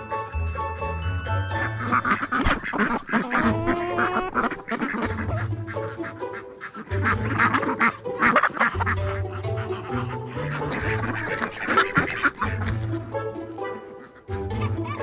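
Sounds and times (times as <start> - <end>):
ducks quacking: 1.5 - 15.0.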